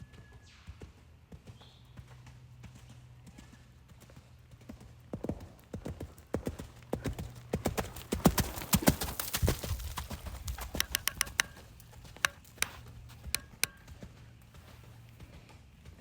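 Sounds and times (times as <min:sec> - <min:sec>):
horse hoofbeats: 0:00.1 - 0:16.0.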